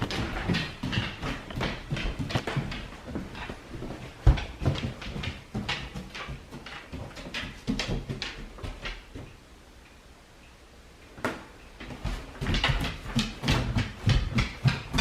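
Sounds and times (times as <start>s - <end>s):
dog claws clicking on hard floor: 0.0s - 9.3s, 11.8s - 15.0s.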